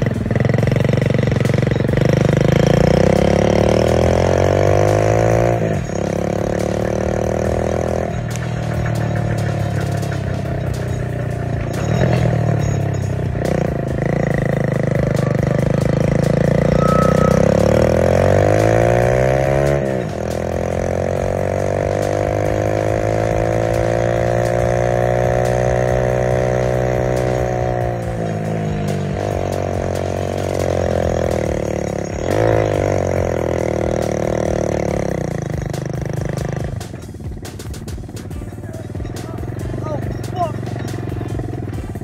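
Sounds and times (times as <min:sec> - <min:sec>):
vehicle engine revving: 0:00.0 - 0:42.0.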